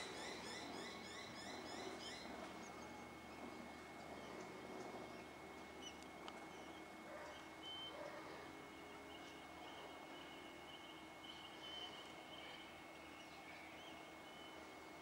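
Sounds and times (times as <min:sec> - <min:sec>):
birds chirping: 0:00.0 - 0:15.0
low outdoor hum: 0:00.0 - 0:15.0.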